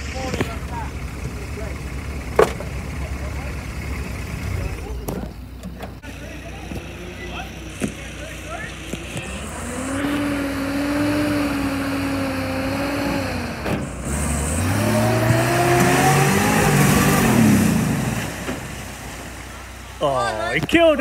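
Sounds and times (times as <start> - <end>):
truck engine pulling under load: 0.0 - 21.0.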